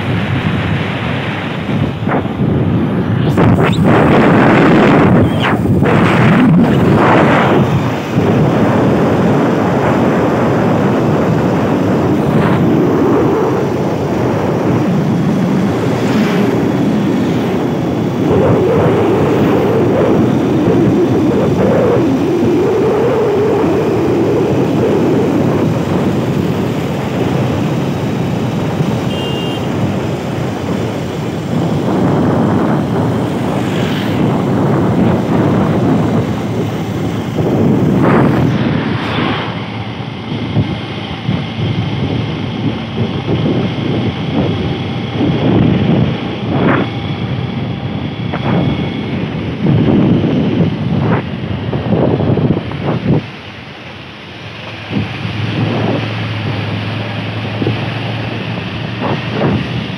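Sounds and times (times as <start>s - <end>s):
engine hum: 0.0s - 59.9s
wind and road noise: 0.0s - 59.9s.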